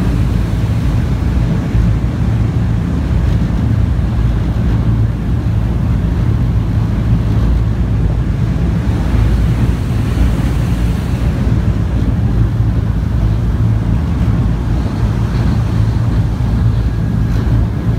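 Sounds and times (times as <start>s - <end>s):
ferry engines droning: 0.0s - 17.9s
water rushing: 0.0s - 17.9s
wind on microphone: 0.0s - 17.9s.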